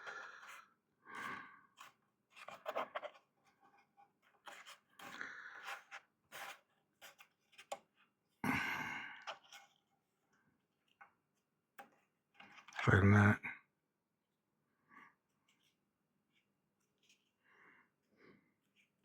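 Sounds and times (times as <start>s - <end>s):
rustling and scraping handling noise: 0.0s - 8.4s, 9.2s - 12.9s, 15.2s - 19.0s.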